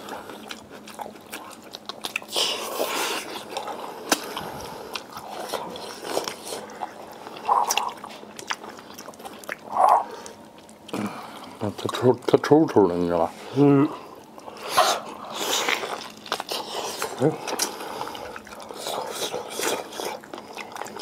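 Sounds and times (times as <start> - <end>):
person chewing wetly: 0.0 - 12.6, 13.9 - 21.0.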